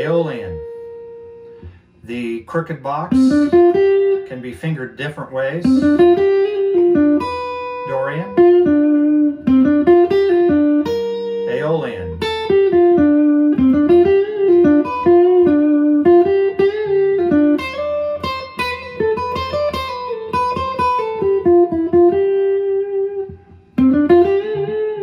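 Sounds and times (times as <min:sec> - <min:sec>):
electric guitar melody: 0:00.0 - 0:02.1, 0:02.7 - 0:25.0.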